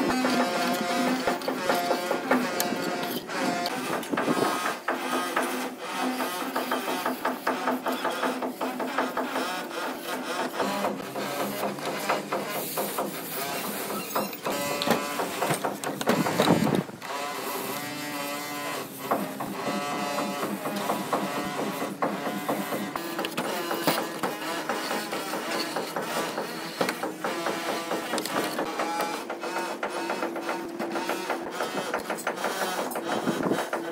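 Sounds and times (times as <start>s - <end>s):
scraping on cement plaster: 0.0s - 33.9s.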